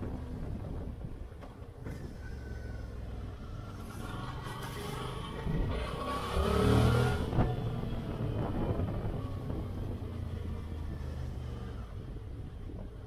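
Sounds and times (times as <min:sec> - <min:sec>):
vehicle engine accelerating: 0:01.8 - 0:13.0.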